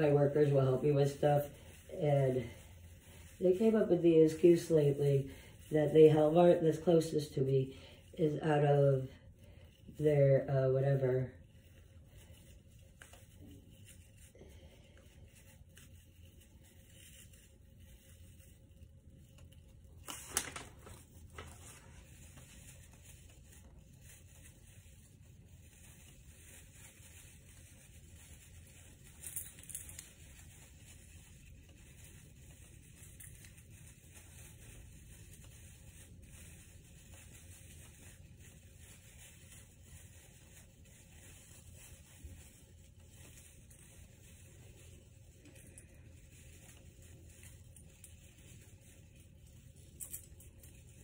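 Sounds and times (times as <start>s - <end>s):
rustling and crinkling: 0.0s - 51.0s.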